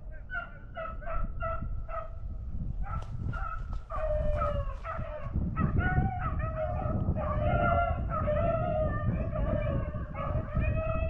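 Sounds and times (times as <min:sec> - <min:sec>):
dogs baying: 0:00.3 - 0:02.2, 0:02.8 - 0:11.0.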